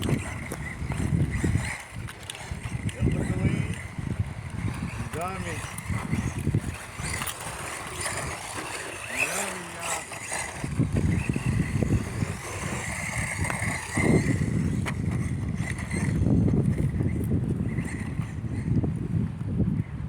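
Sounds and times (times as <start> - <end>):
high electric motor whine: 0.0 - 20.0
rough rumble of running gear: 0.0 - 20.0.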